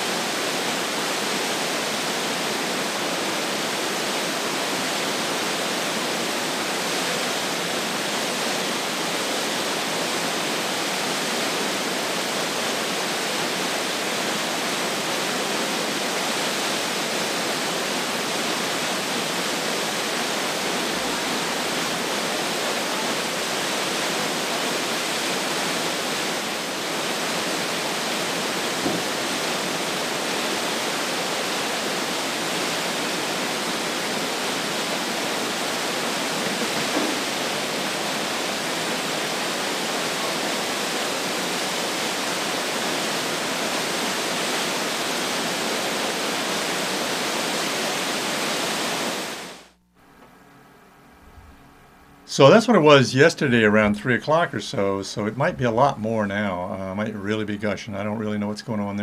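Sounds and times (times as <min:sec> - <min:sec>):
waterfall rushing: 0:00.0 - 0:49.7.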